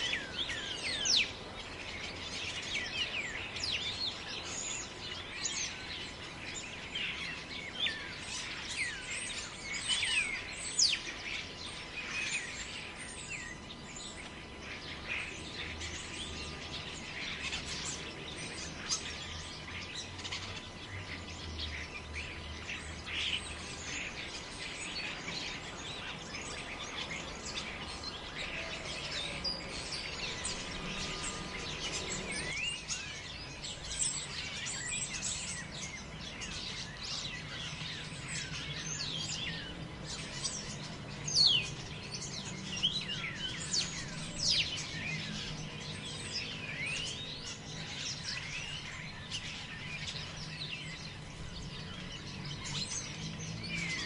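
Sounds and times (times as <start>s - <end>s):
birds chirping and calling: 0.0s - 54.0s
wind through trees: 0.0s - 54.0s.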